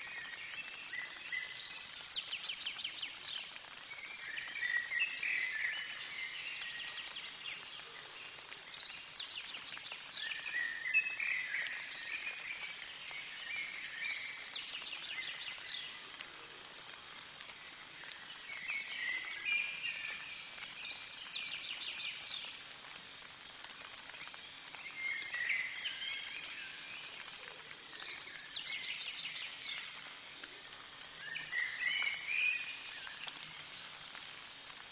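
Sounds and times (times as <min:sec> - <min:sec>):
rain hissing: 0:00.0 - 0:34.9.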